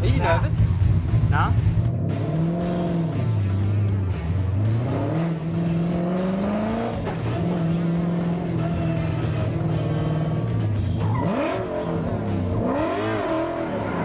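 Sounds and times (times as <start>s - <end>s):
car engine revving hard: 1.8s - 14.0s.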